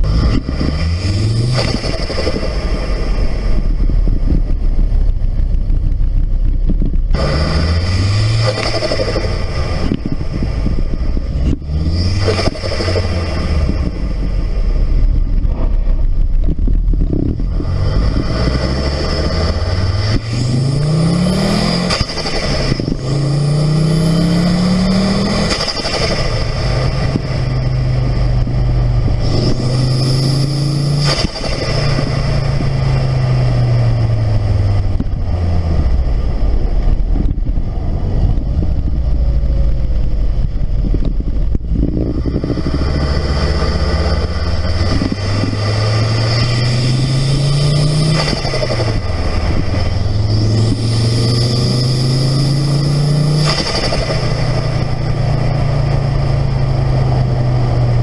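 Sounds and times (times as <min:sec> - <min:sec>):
turbocharged engine accelerating: 0:00.0 - 0:58.0.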